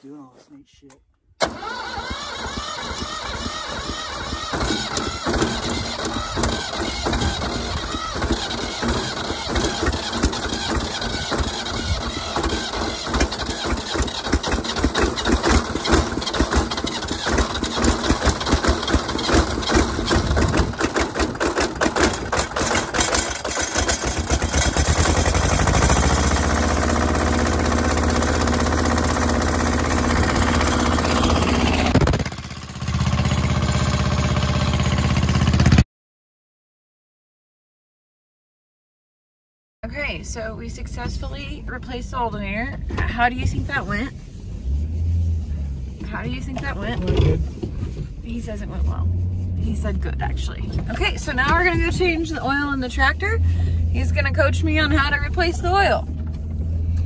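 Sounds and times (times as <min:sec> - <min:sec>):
engine running: 0:01.4 - 0:35.8, 0:40.0 - 0:57.0.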